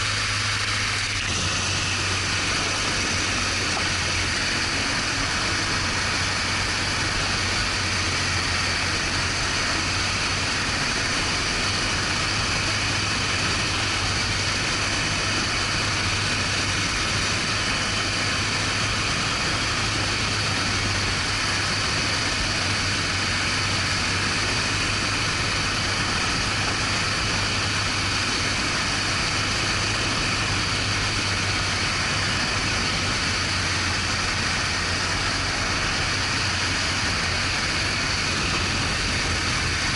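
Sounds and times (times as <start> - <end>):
motorcycle engine humming: 0.0 - 39.9
wind and road noise: 0.0 - 39.9.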